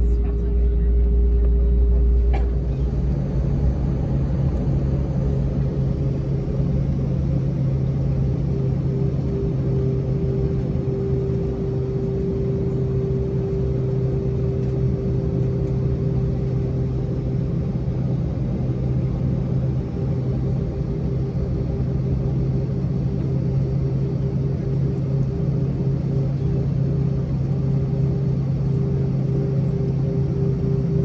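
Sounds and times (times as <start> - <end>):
high engine drone: 0.0 - 31.0
jet engines in cabin: 0.0 - 31.0.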